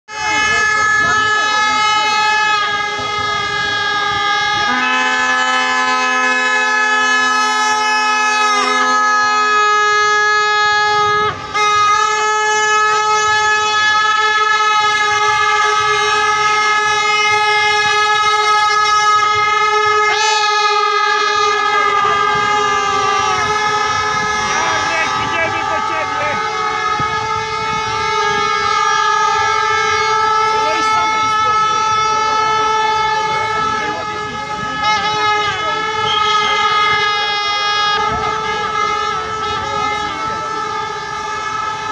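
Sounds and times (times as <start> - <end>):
handheld horns blowing: 0.1 - 41.9.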